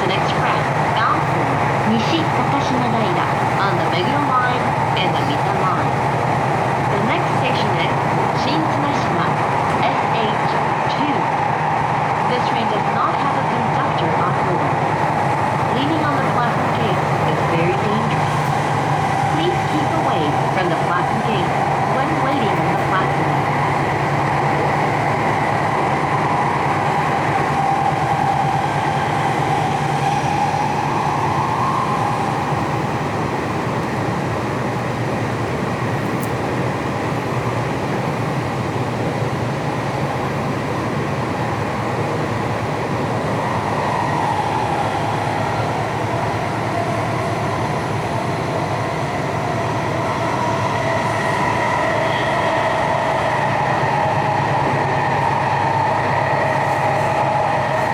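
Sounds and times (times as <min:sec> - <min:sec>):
train wheels rumbling: 0:00.0 - 0:57.9.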